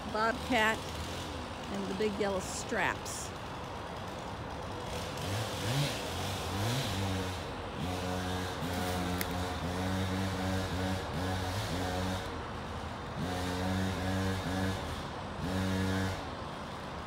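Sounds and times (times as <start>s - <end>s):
distant chainsaw revving: 0.0s - 17.0s.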